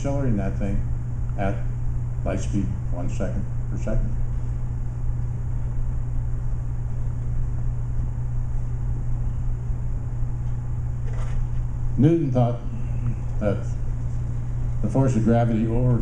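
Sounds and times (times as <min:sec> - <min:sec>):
room noise hiss: 0:00.0 - 0:16.0
steady low hum: 0:00.0 - 0:16.0.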